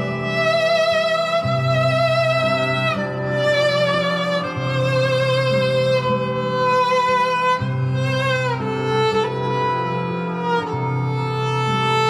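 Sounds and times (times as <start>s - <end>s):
bowed viola melody with vibrato: 0.0s - 12.0s.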